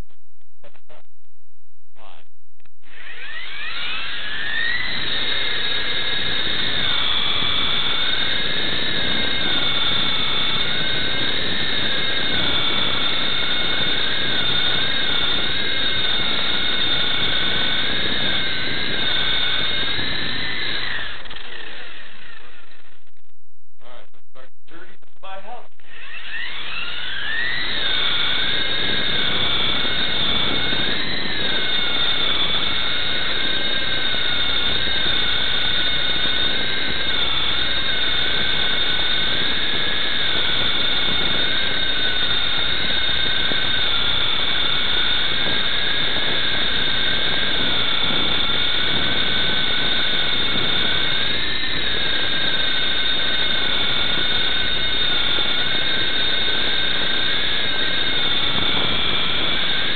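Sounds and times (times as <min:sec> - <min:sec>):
rc helicopter motor whine: 0:02.8 - 0:23.0, 0:24.7 - 0:59.9.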